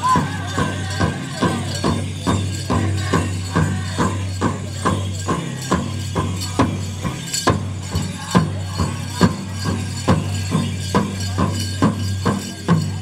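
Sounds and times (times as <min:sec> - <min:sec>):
drum steady beat: 0:00.0 - 0:13.0.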